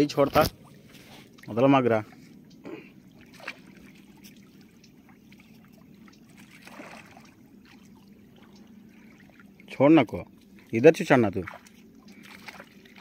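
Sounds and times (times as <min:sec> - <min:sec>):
light water sounds: 0:00.0 - 0:13.0
low steady hum: 0:00.0 - 0:13.0.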